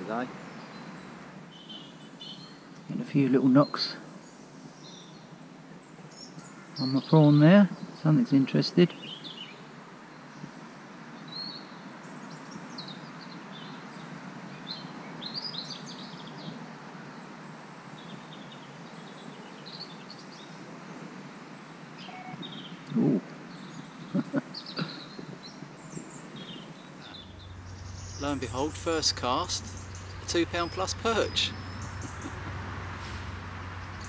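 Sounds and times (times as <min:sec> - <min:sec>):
outdoor background hiss: 0:00.0 - 0:34.0
small birds chirping: 0:00.0 - 0:34.0.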